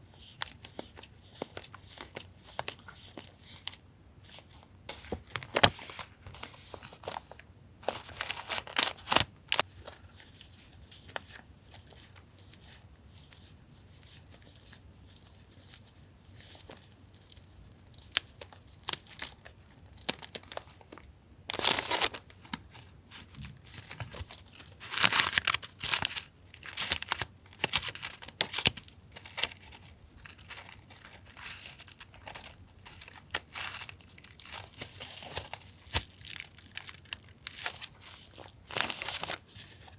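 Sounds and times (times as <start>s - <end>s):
paper rustling and crinkling: 0.1s - 39.9s.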